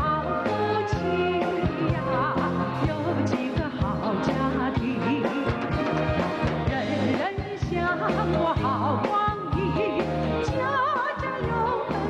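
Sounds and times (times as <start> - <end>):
live band playing: 0.0 - 12.0
woman singing with vibrato: 0.0 - 12.0
steady drum beat: 1.6 - 12.0.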